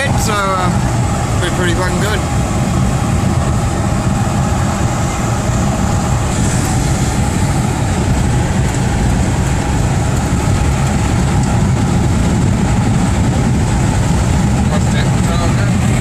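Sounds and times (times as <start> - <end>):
engine and road noise inside car: 0.0 - 16.0.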